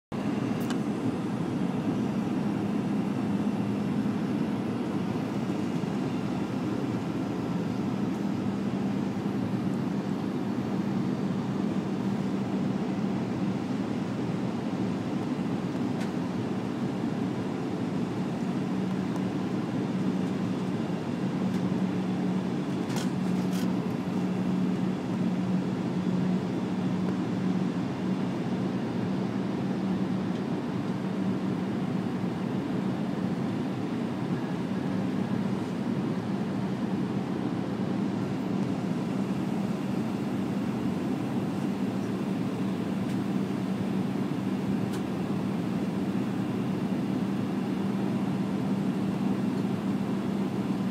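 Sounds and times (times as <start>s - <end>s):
constant low hum: 0.1s - 50.9s
jet engine and airflow noise: 0.1s - 50.9s.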